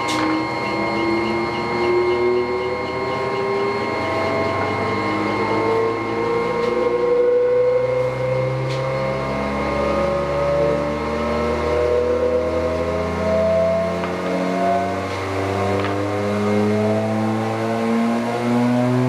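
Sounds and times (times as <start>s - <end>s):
planer motor winding up: 0.0s - 19.0s.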